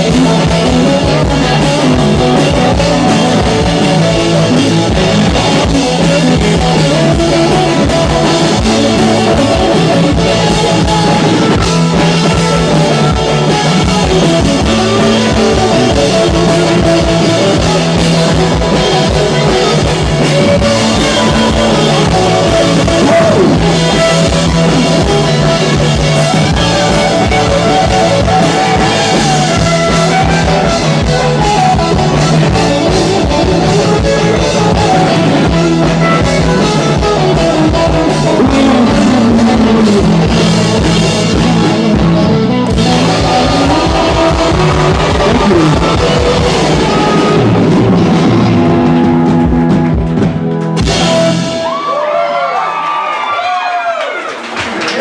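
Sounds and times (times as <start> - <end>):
drum kit beat: 0.0 - 51.9
electric guitar: 0.0 - 55.0.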